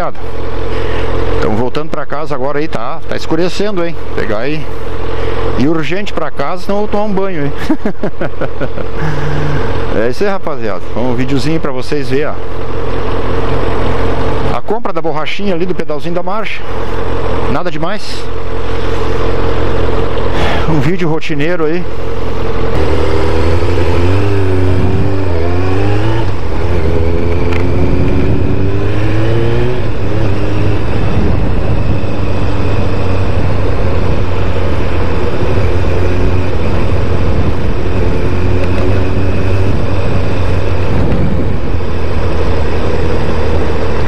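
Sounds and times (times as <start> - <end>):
motorcycle engine accelerating: 0.0 - 2.9, 3.5 - 11.2, 12.4 - 14.7, 16.6 - 20.9, 21.8 - 44.0.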